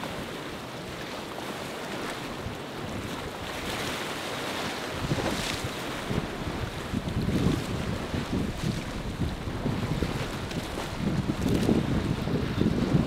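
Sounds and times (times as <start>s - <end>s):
bow wake splashing: 0.0s - 13.0s
choppy water washing: 0.0s - 13.0s
wind buffeting microphone: 1.9s - 13.0s.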